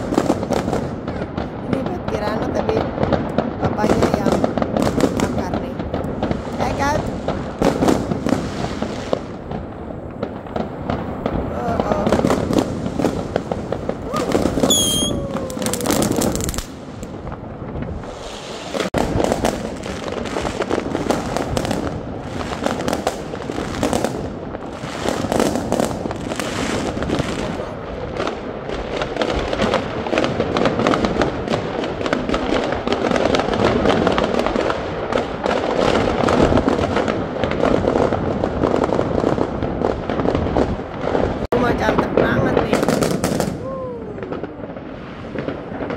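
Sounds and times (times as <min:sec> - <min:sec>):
fireworks crackling: 0:00.0 - 0:45.9.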